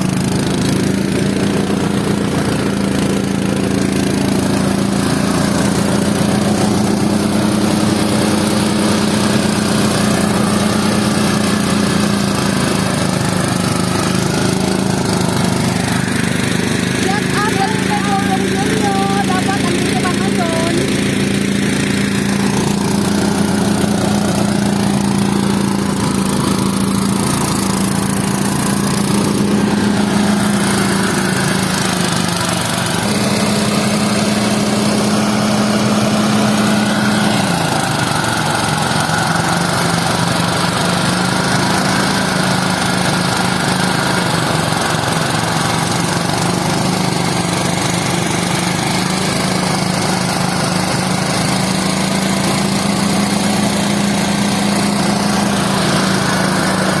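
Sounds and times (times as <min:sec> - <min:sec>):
farm machine engine running: 0:00.0 - 0:57.0.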